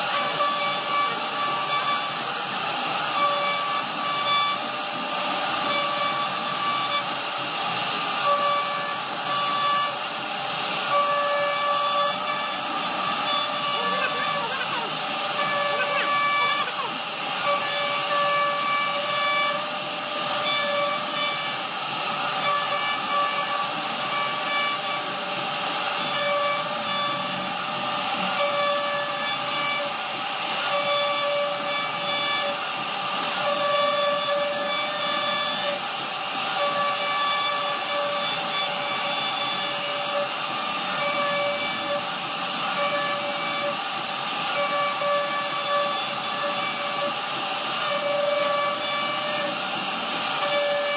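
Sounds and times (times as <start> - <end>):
hiss of wood being cut: 0.0 - 50.9
router spindle whine: 0.0 - 50.9.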